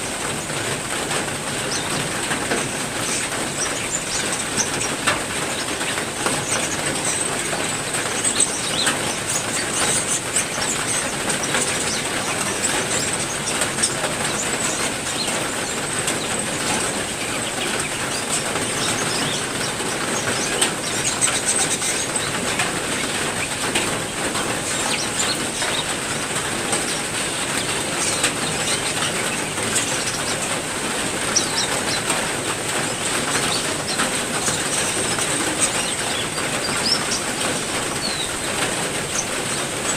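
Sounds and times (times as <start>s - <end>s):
heavy rain: 0.0s - 39.9s
songbirds chirping: 0.0s - 39.9s.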